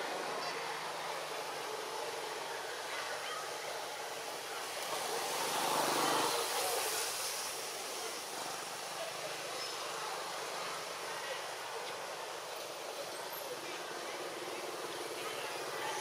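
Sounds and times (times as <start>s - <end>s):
hissing outdoor background noise: 0.0s - 16.0s.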